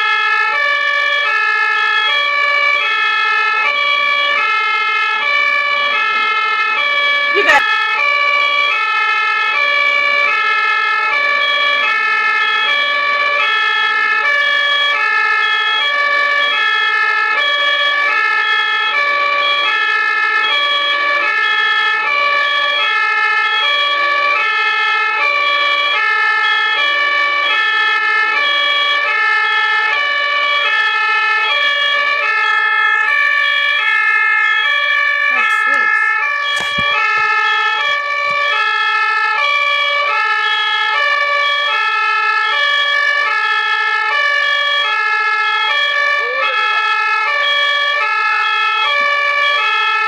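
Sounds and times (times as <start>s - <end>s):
ambulance two-tone siren: 0.0s - 50.0s.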